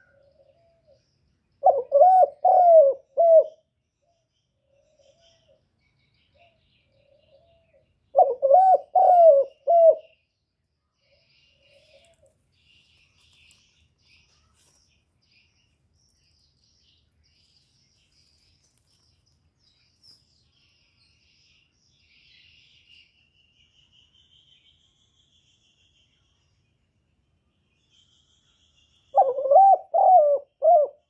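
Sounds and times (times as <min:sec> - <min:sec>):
faint high-pitched chirping: 0:00.0 - 0:31.0.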